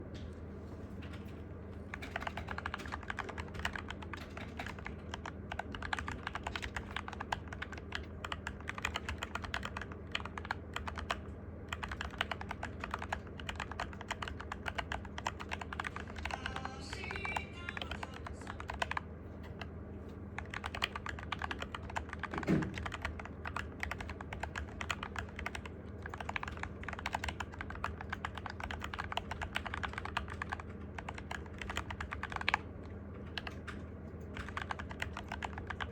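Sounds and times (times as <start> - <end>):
fast keyboard typing: 1.9 - 19.7, 20.3 - 35.9.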